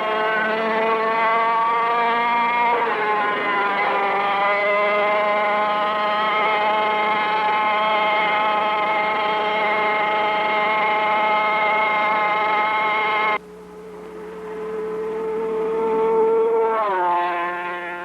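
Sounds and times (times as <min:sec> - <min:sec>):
engine running at high revs: 0:00.0 - 0:18.0.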